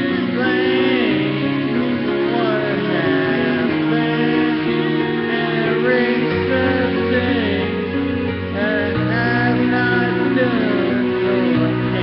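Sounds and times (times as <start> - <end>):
karaoke backing track: 0.0 - 12.0
man singing into a microphone: 0.0 - 12.0.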